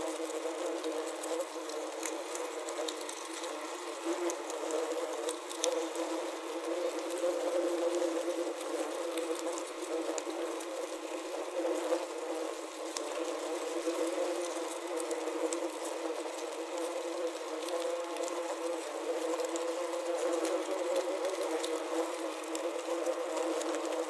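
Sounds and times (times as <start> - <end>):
wasps buzzing: 0.0 - 24.0.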